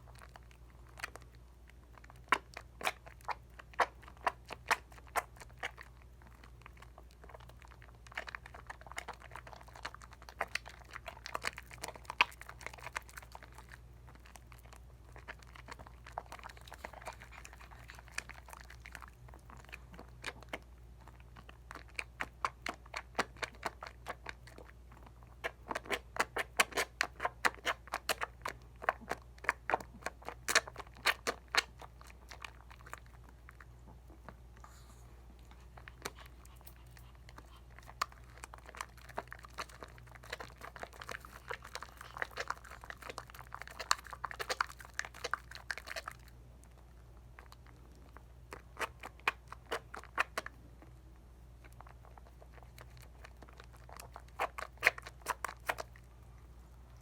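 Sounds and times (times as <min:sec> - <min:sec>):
faint low hum: 0:00.0 - 0:57.0
soap lather squishing: 0:00.0 - 0:57.0.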